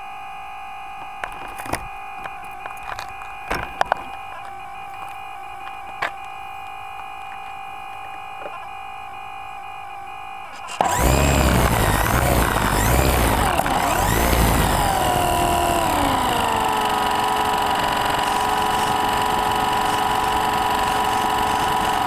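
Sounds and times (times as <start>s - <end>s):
electronic whine: 0.0s - 22.0s.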